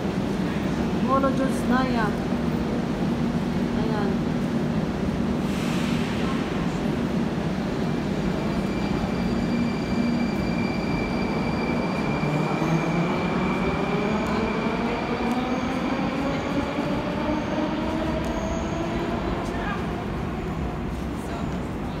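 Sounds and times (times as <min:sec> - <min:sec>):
metro train rumble: 0:00.0 - 0:22.0.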